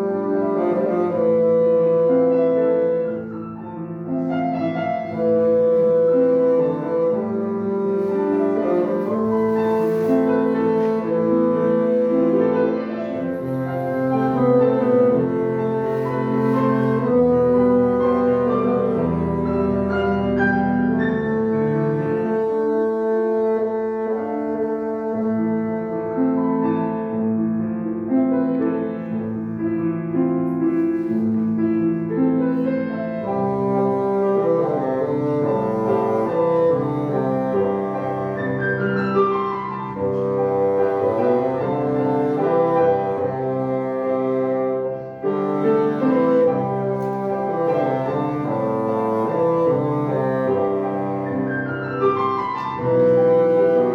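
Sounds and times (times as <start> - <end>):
bassoon melody: 0.0 - 53.9
piano accompaniment: 0.0 - 53.9.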